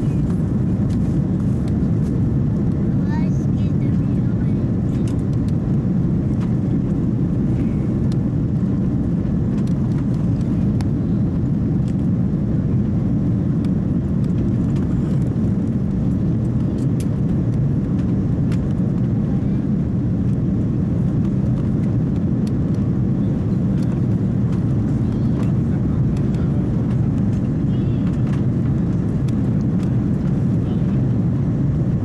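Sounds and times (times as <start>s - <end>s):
jet engine roar in cabin: 0.0s - 32.0s.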